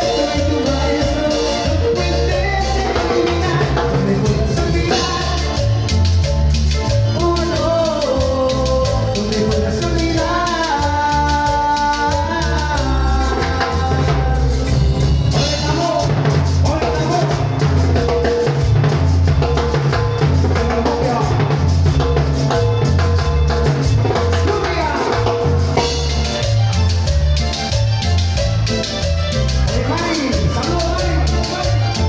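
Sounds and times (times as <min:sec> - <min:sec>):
band playing latin dance music: 0:00.0 - 0:32.0
bass line: 0:00.0 - 0:32.0
drum kit beat: 0:00.0 - 0:32.0.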